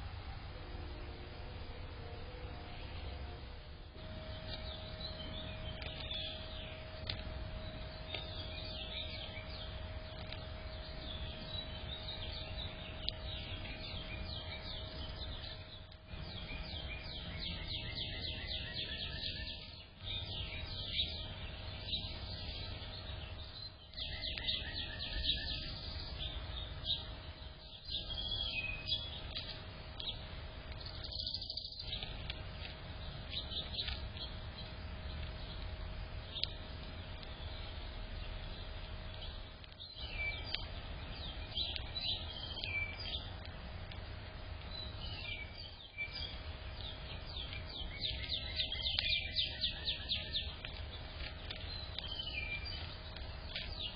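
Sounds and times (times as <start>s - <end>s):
small songbirds chirping: 0.0s - 53.9s.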